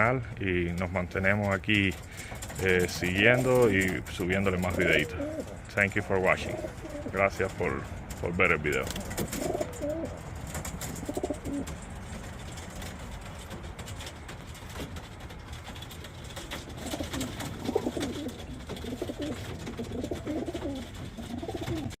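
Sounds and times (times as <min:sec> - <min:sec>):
pigeons cooing: 0:01.9 - 0:22.0.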